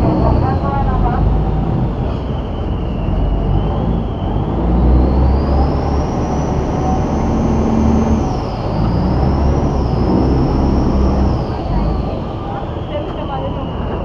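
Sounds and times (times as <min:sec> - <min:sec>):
boat engine running: 0:00.0 - 0:14.0
high engine whine: 0:00.0 - 0:14.0.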